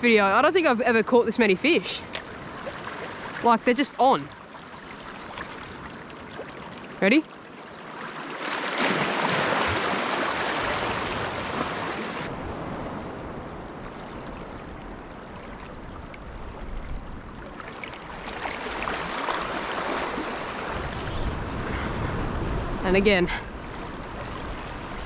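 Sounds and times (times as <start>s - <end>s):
small waves washing on shore: 0.0s - 25.0s.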